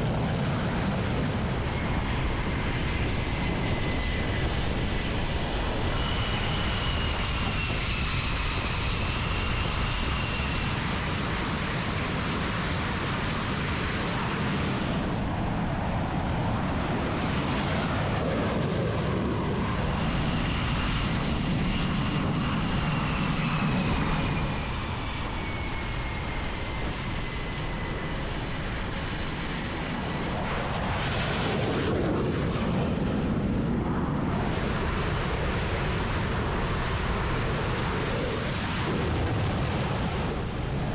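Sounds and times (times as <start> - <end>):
jet turbine engines roaring: 0.0 - 40.9.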